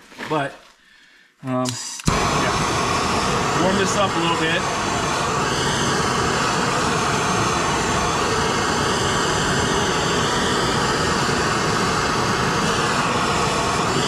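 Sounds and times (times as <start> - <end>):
gas torch flame roaring: 1.7 - 14.0.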